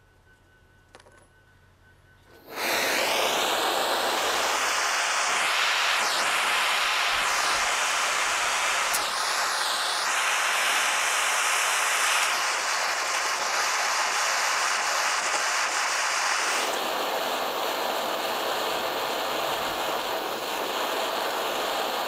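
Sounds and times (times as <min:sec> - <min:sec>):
loud steady hissing rush: 0:02.2 - 0:22.0.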